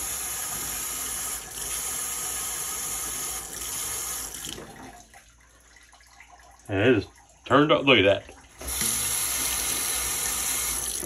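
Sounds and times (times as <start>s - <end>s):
faucet water running into sink: 0.0s - 11.0s.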